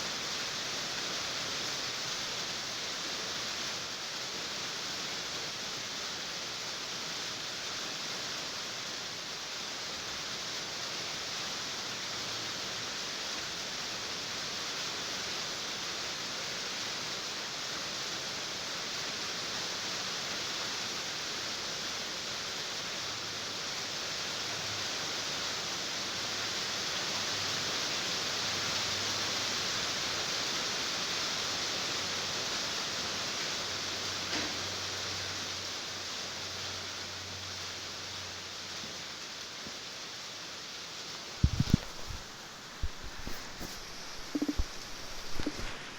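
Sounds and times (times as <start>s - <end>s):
rain on a tin roof: 0.0s - 45.9s.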